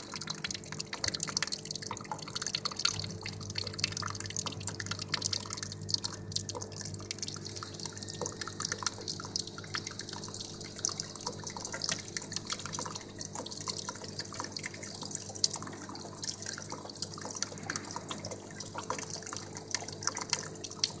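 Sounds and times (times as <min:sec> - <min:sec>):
liquid dripping into paper cup: 0:00.0 - 0:21.0.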